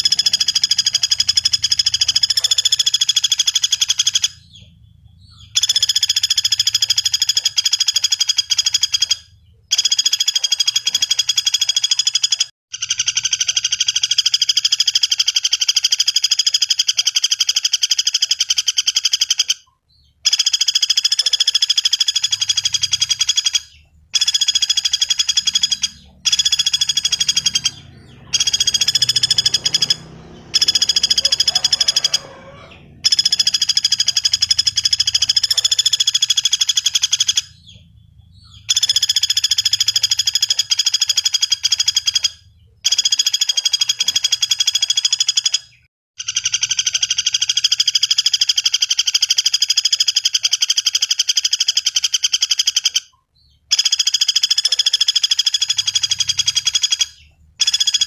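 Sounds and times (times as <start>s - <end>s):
woodpecker rattling trill: 0.0s - 58.0s.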